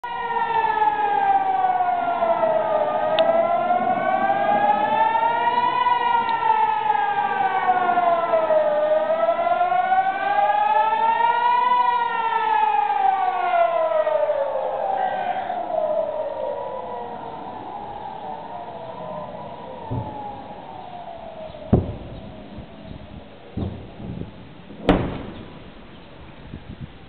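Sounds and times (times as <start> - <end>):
siren wailing: 0.0 - 26.8.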